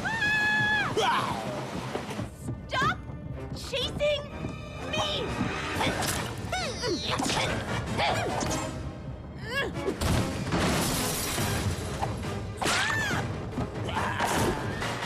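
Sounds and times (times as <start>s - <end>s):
cartoon background music: 0.0s - 15.0s.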